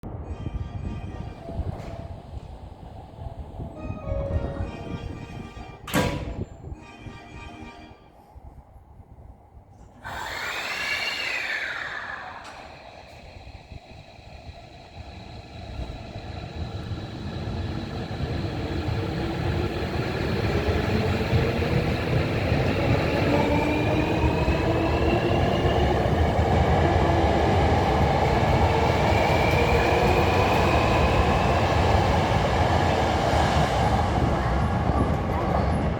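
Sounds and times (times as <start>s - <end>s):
wheels rumbling on rail: 0.0s - 6.8s, 11.2s - 35.9s.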